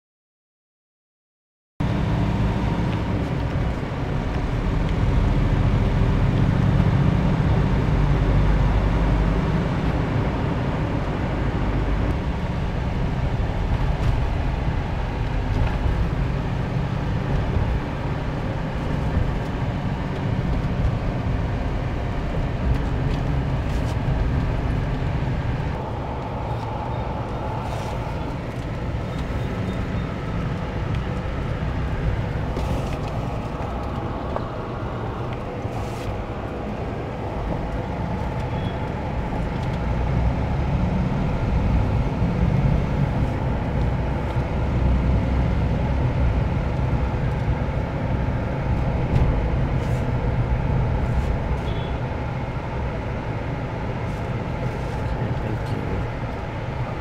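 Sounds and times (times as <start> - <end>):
vehicle engine and road noise: 1.8 - 57.0.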